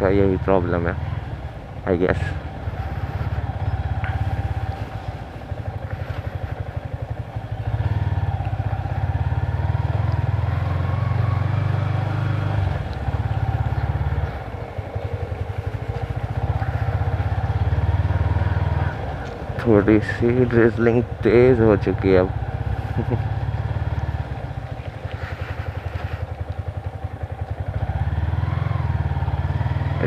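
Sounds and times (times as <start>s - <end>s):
motorcycle engine droning: 0.0s - 30.0s.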